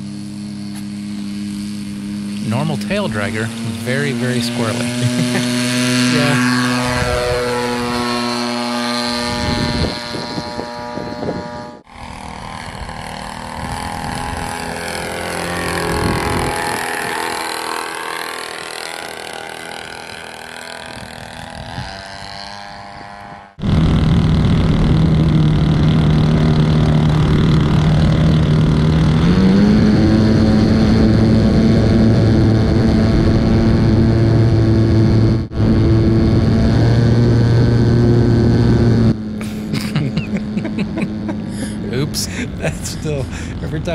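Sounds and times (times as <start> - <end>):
model airplane engine: 0.0 - 43.9.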